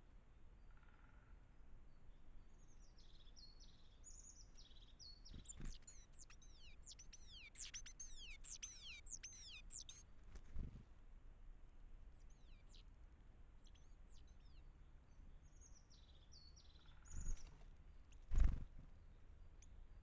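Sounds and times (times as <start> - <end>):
songbirds calling: 0.6 - 10.8, 12.1 - 12.9, 13.5 - 20.0.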